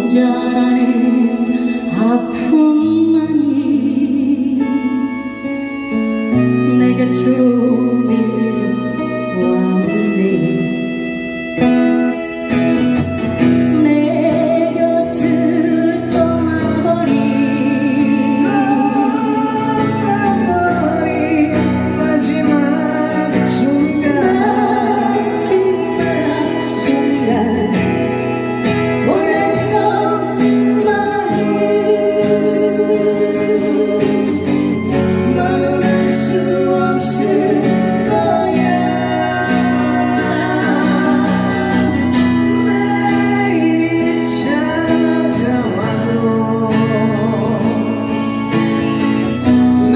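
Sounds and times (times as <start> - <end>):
guitar accompaniment: 0.0 - 49.9
person singing: 0.0 - 49.9.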